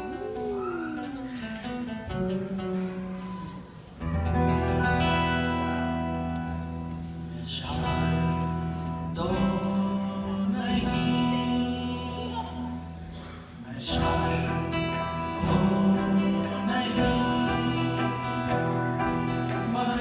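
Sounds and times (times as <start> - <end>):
guitar chords: 0.0 - 20.0.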